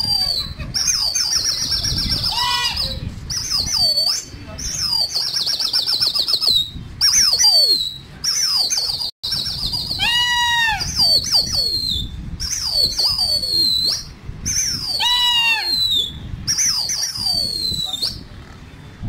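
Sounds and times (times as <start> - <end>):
birds high whistled calls: 0.0 - 18.3
lower wavering whistles: 0.0 - 18.3.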